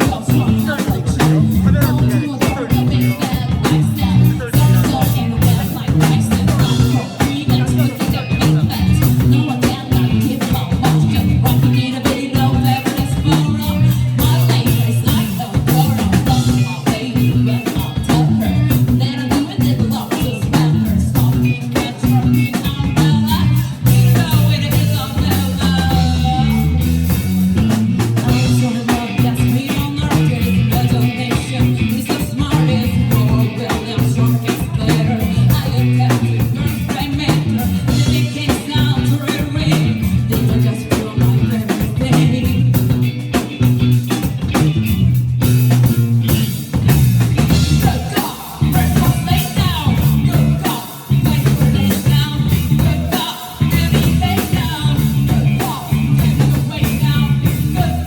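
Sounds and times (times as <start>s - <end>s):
person singing: 0.0s - 44.6s, 47.4s - 58.0s
drum kit: 0.0s - 58.0s
guitar: 0.0s - 58.0s.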